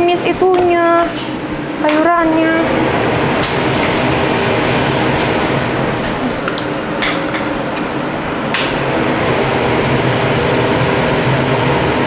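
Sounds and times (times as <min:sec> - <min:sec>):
extractor hood fan running: 0:00.0 - 0:12.0.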